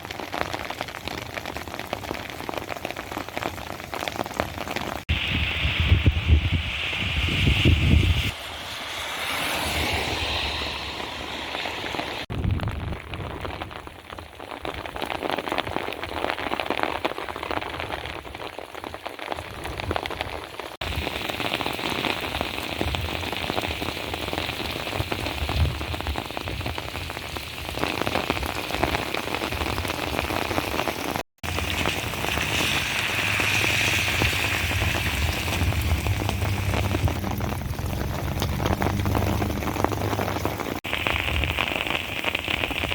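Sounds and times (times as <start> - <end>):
heavy rain splashing: 0.0 - 42.9.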